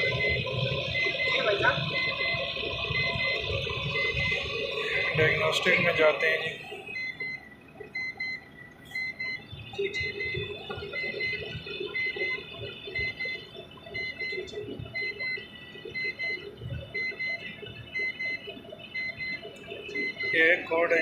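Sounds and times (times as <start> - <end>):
irregular low rumble: 0.0 - 20.3
electronic warning beeper: 0.0 - 21.0.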